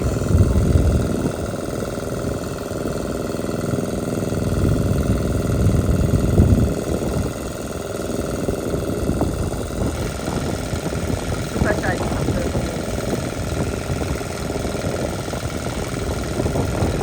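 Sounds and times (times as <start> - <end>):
generator engine droning: 0.0 - 17.0.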